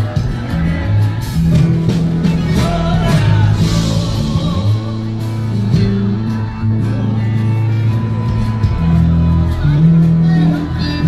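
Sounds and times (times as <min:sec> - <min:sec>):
bass line: 0:00.0 - 0:11.0
drums: 0:00.0 - 0:11.0
guitar: 0:00.0 - 0:11.0.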